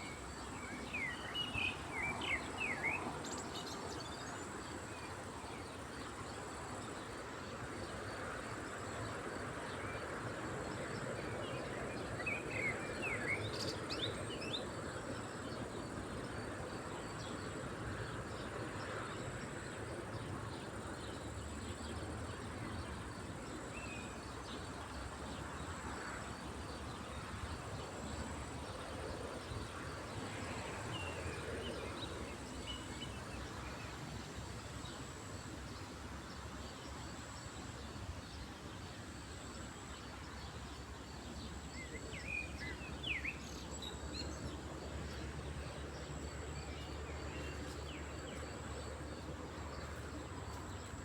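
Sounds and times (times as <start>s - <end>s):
steady background noise: 0.0s - 51.0s.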